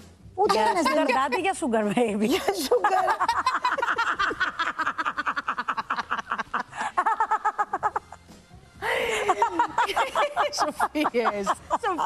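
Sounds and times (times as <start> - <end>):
women laughing: 0.5 - 8.2, 8.8 - 12.0.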